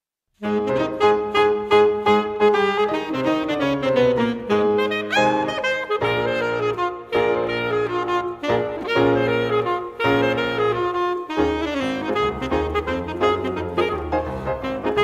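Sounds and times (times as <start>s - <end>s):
instrumental music: 0.4s - 15.0s.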